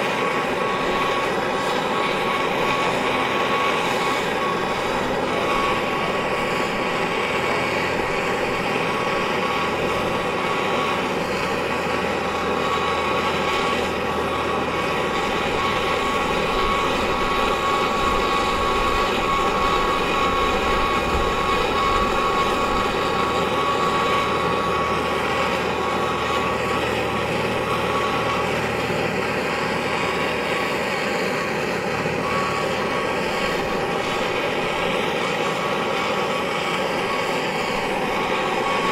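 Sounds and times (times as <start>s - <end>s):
thin high tone: 0.0s - 38.9s.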